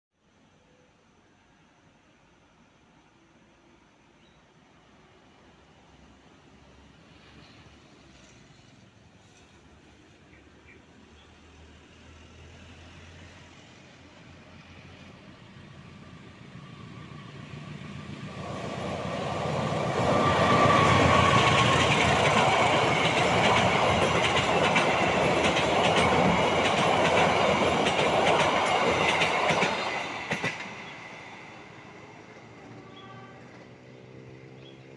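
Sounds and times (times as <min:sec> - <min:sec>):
train crossing steel bridge: 0:00.6 - 0:34.9.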